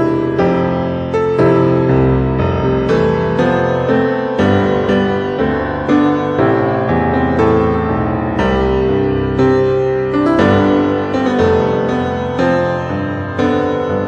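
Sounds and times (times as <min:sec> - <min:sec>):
slow piano piece: 0:00.0 - 0:14.0.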